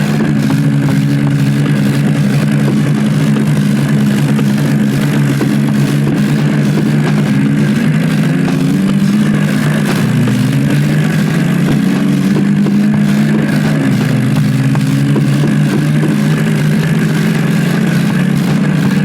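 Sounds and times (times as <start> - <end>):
diesel tractor engines under load: 0.0 - 19.0.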